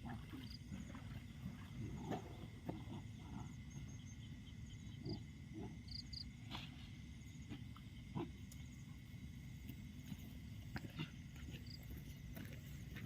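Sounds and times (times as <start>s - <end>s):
insects chirping in trills: 0.0s - 13.0s.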